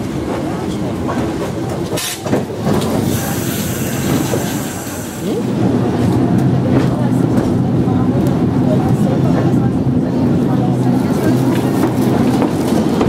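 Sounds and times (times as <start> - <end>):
tram wheels rumbling: 0.0 - 13.0.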